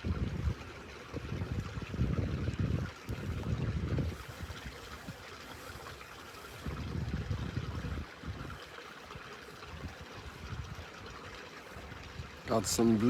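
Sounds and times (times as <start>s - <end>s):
steady outdoor hiss: 0.0s - 13.0s
wind buffeting microphone: 0.0s - 13.0s.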